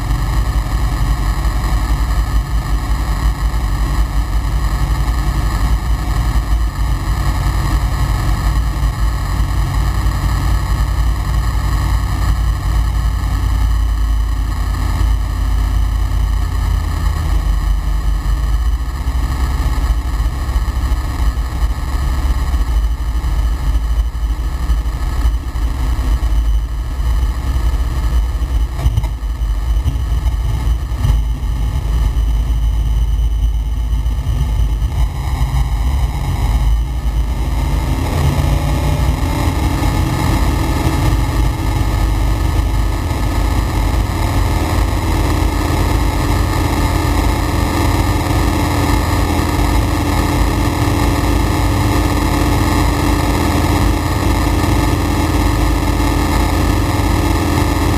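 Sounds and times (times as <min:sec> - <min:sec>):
light aircraft engine rumble: 0:00.0 - 0:57.9
wheel and airflow noise: 0:00.0 - 0:57.9.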